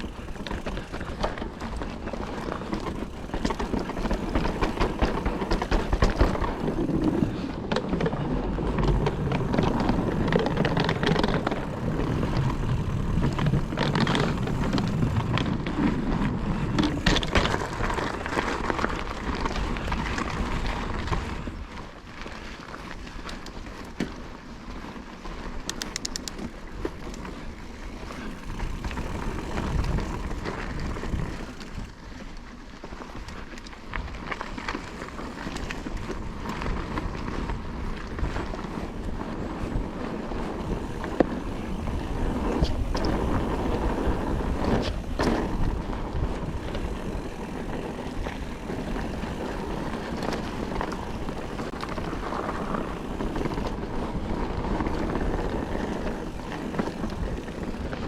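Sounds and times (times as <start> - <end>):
bike rattling over bumps: 0.0 - 58.0
bike tyres on loose dirt: 0.0 - 58.0.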